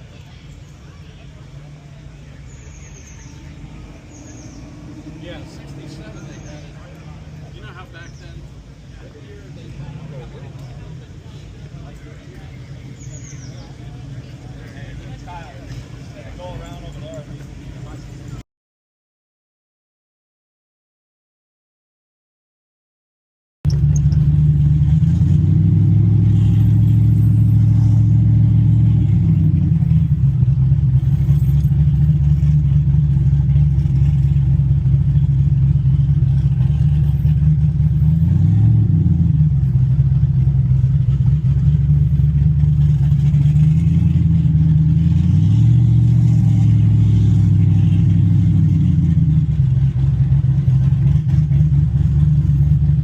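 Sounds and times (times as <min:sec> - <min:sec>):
car engine running: 0:00.0 - 0:18.4, 0:23.7 - 0:53.0.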